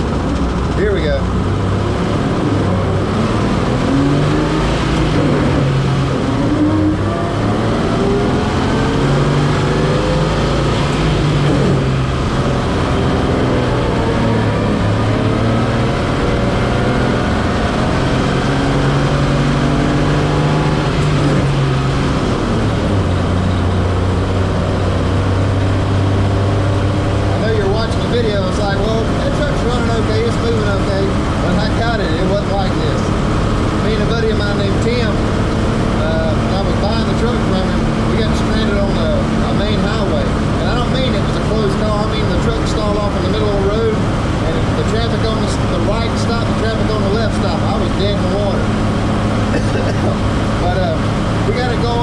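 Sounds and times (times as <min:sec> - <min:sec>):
truck engine accelerating through gears: 0:00.0 - 0:52.0.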